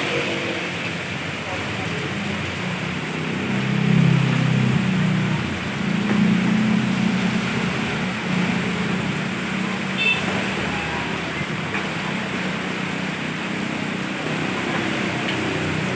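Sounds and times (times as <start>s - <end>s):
traffic hiss in rain: 0.0s - 15.9s.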